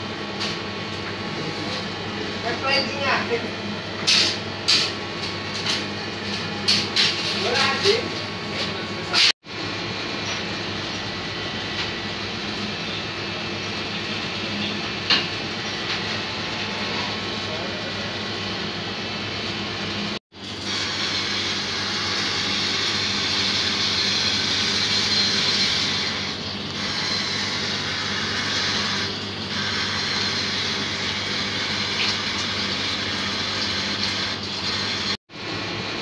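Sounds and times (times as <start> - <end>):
oven fan running: 0.0 - 36.0.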